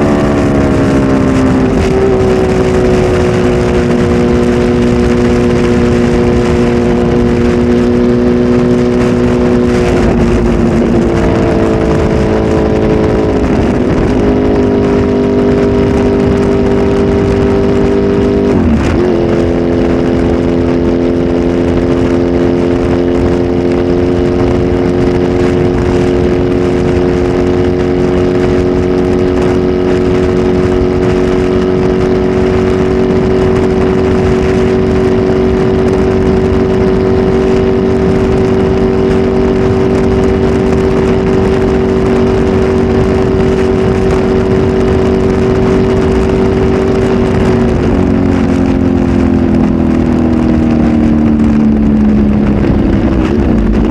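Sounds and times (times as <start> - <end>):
motorcycle engine revving loud: 0.0 - 53.9.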